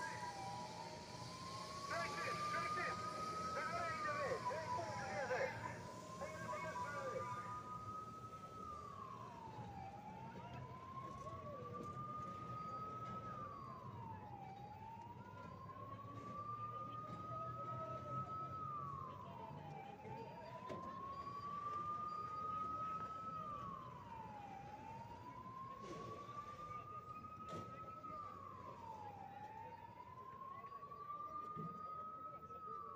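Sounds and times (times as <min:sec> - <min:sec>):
siren wailing: 0:00.0 - 0:32.9.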